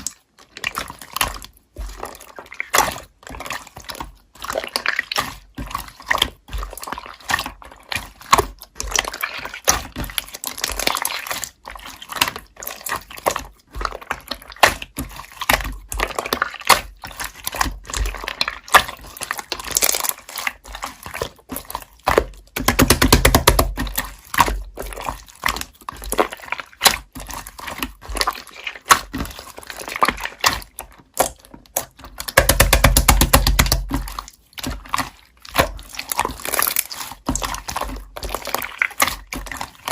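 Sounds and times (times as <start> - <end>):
slime crackling: 0.0 - 39.9
slime squishing: 0.0 - 39.9.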